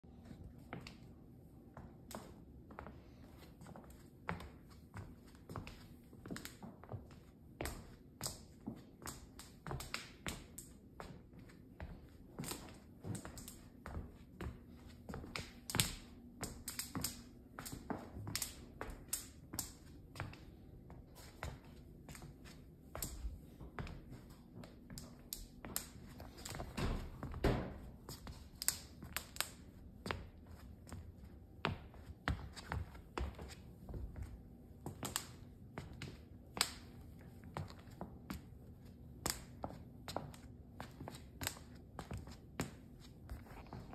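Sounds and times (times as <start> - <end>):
slow footsteps: 0.1 - 43.9
vinyl flooring cracking underfoot: 3.7 - 43.9.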